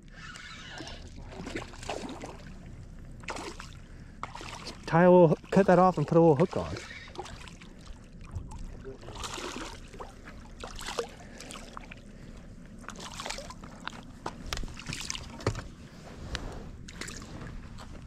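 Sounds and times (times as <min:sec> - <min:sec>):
light water splashing: 0:00.2 - 0:15.8.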